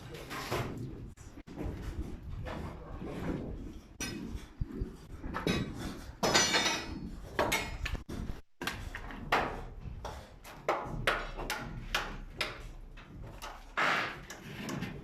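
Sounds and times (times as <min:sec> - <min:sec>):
building work knocks and bangs: 0:00.0 - 0:15.0.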